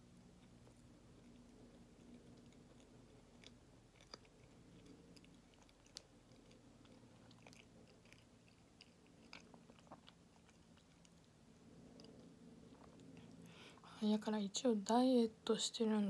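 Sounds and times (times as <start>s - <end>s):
faint chewing mouth clicks: 0.1s - 13.8s.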